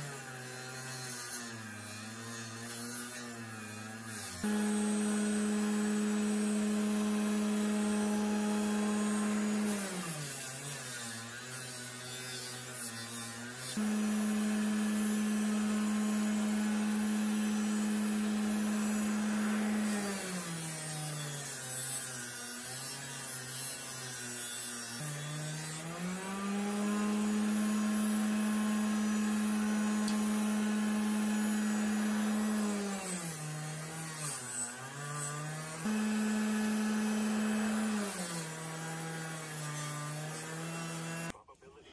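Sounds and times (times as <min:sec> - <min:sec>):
bench grinder motor hum: 0:00.0 - 0:41.4.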